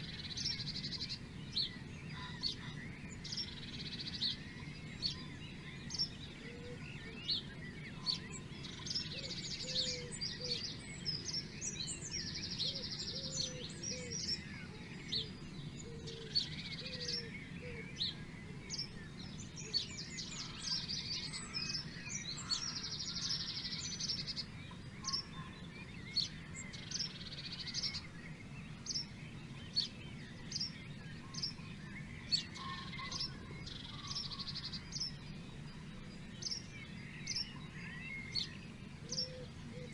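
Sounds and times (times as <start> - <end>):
bird chirps and calls: 0.0 - 39.9
steady low background noise: 0.0 - 39.9.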